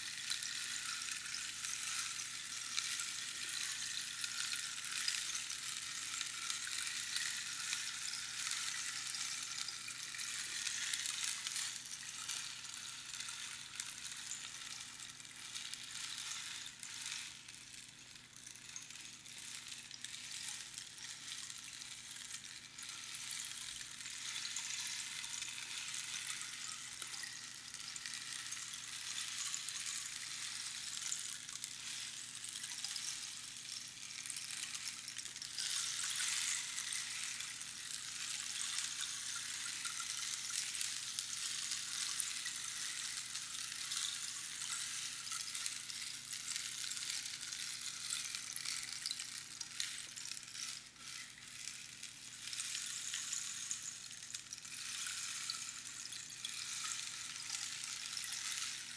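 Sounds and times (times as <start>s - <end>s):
rainstick pebbles pattering: 0.0s - 58.9s.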